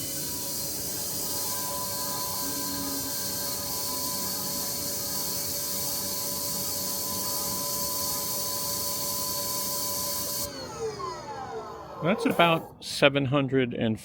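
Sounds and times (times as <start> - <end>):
motor and pump whine: 0.0 - 12.8.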